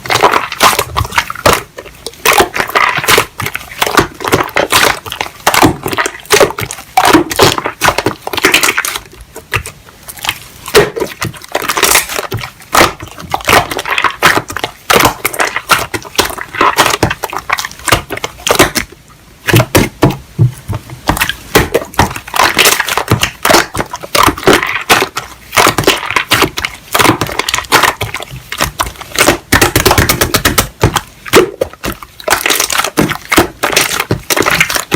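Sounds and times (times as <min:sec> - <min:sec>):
slime clicking and crackling: 0:00.0 - 0:20.0, 0:21.0 - 0:34.9.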